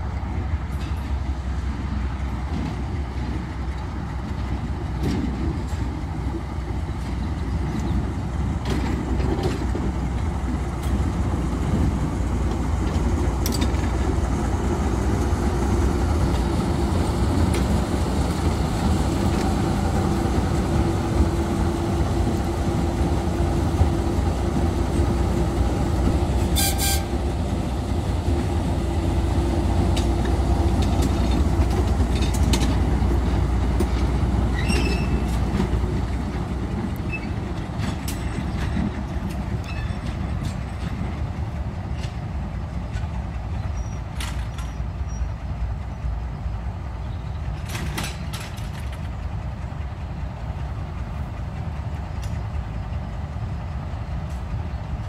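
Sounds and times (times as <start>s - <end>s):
diesel locomotive engine rumble: 0.0s - 55.0s.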